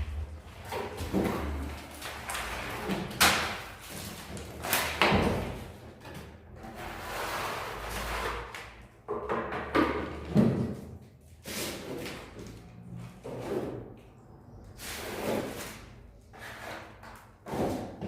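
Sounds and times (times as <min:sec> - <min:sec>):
plastering tools scraping and knocking: 0:00.0 - 0:18.0.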